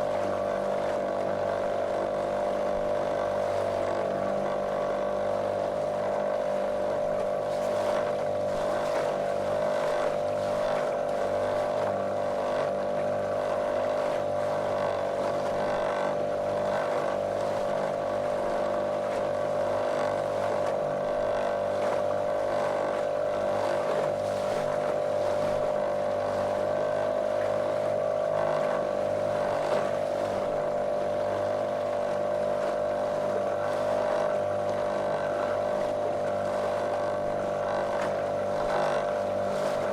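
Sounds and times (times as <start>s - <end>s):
outboard motor running: 0.0s - 39.9s
water hissing along hull: 0.0s - 39.9s.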